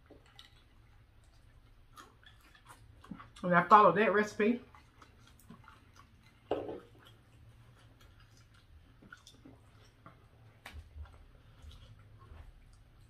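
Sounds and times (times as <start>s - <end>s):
person chewing: 0.0s - 3.8s, 4.6s - 13.0s.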